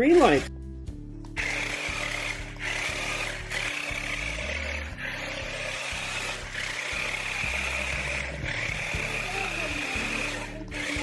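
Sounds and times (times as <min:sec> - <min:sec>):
electric toy car motors whirring: 0:01.4 - 0:11.0.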